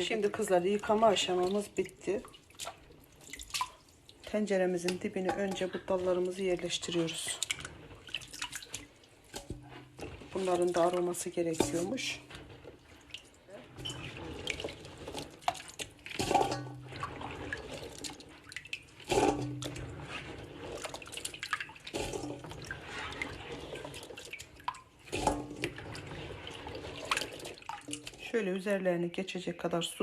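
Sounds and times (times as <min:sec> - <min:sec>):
tap water running into a pot: 0:00.0 - 0:28.2
water splashing and dripping: 0:00.0 - 0:28.4.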